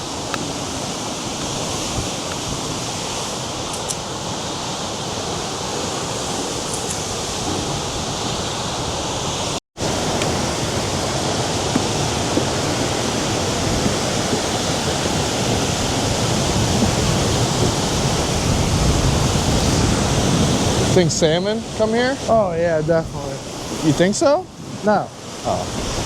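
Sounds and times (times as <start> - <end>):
surf on the shore: 0.0 - 26.0.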